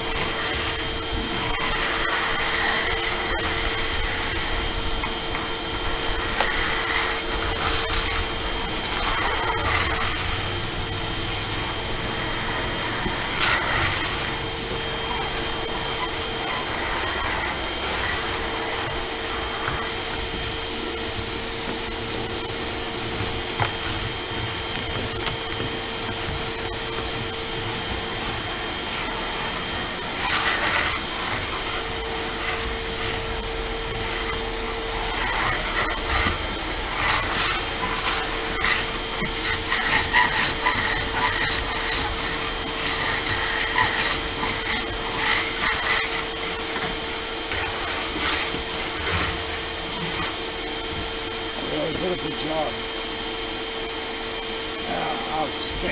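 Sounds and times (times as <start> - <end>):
shop vacuum motor whine: 0.0 - 55.9
crackling and scraping on deck: 0.1 - 10.7, 11.8 - 51.2.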